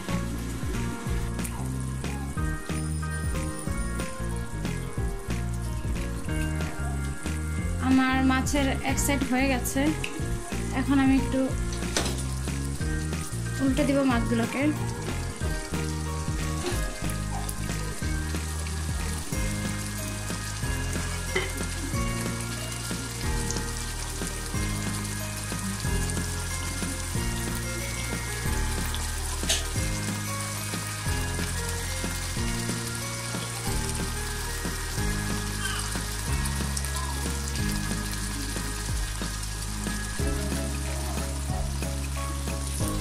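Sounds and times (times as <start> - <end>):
fish frying in oil: 0.0 - 43.0
soft background music: 0.0 - 43.0.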